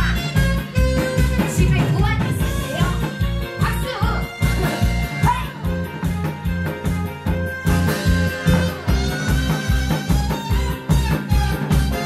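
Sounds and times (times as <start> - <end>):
backing track with steady beat: 0.0 - 12.0
live drums: 0.0 - 12.0.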